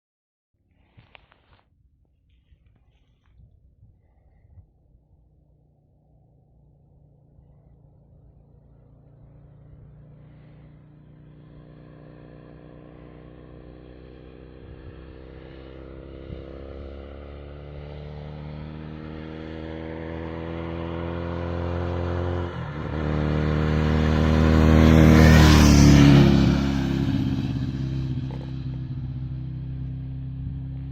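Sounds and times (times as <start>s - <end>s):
motorcycle engine running: 2.3s - 30.9s.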